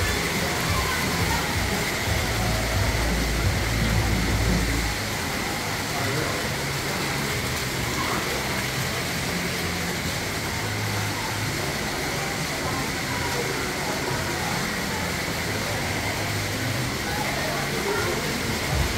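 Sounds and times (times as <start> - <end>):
passing traffic rumble: 0.0 - 18.9
steady street noise: 0.0 - 18.9.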